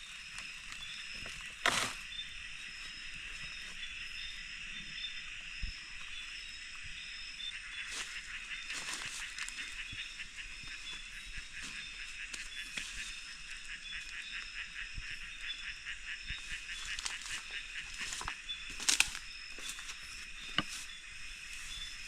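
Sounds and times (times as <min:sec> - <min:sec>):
insects and frogs chorus: 0:00.0 - 0:22.0.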